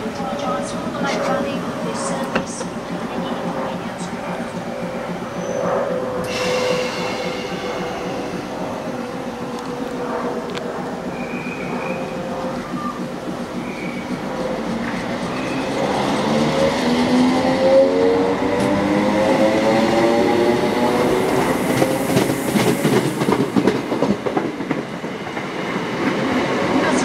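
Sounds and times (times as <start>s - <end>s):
electric train motors whining: 0.0s - 23.4s.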